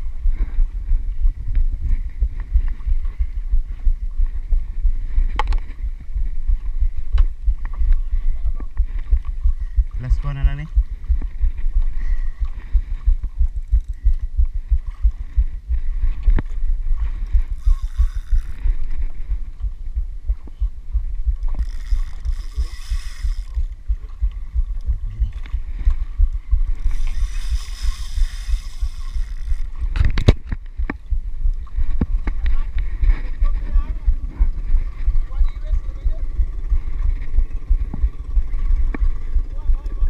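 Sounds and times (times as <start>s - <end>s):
wind and water buffeting microphone: 0.0s - 40.0s.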